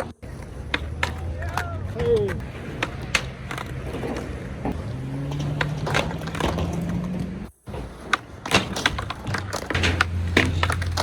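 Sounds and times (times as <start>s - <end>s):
skateboard deck clacking on ground: 0.0s - 11.0s
skateboard wheels rolling: 0.0s - 11.0s.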